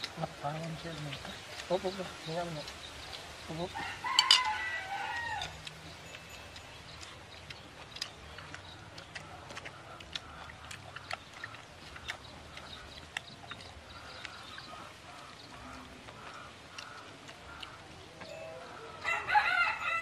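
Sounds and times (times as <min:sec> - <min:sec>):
chickens clucking: 0:00.0 - 0:19.7.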